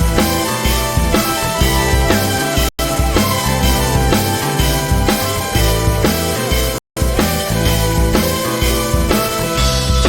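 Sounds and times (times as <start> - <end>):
rock music with drums: 0.0 - 10.0.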